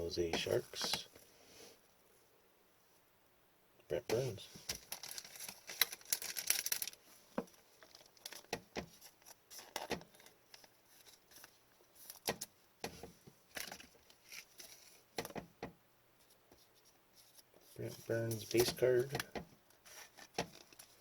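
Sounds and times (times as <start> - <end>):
trading cards being handled: 0.3 - 1.2, 4.1 - 15.4, 16.2 - 21.0.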